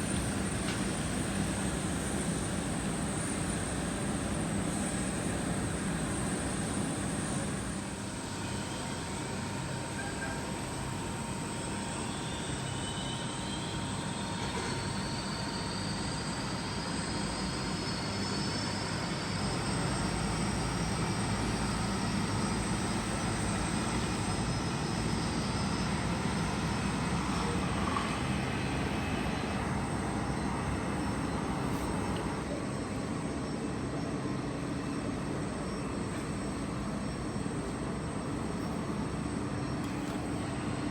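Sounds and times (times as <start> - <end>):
jet engine whine rising: 0.0 - 40.9
jet engines rumbling: 0.0 - 40.9.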